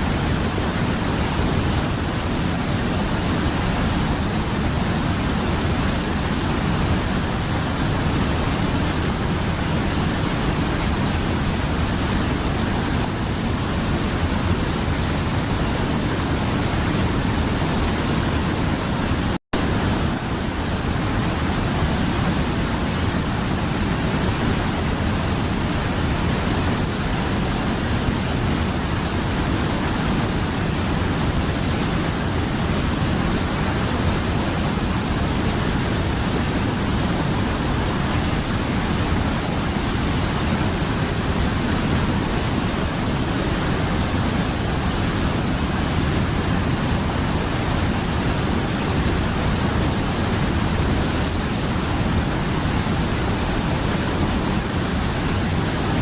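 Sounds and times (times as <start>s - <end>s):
mountain river rushing: 0.0s - 56.0s.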